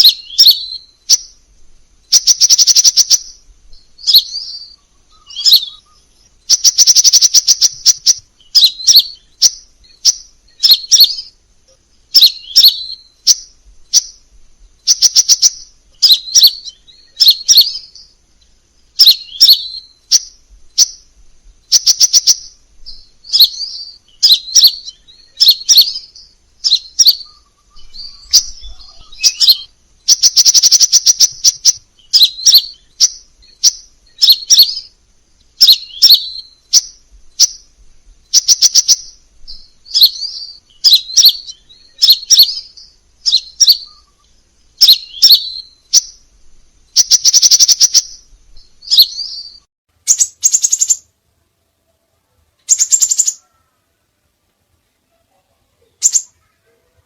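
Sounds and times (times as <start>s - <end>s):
buzzy bird trills: 0.0s - 1.4s, 2.0s - 51.1s, 52.6s - 54.0s, 55.1s - 57.0s
bird chirping and twittering: 0.0s - 51.1s, 52.6s - 53.9s, 55.1s - 56.8s.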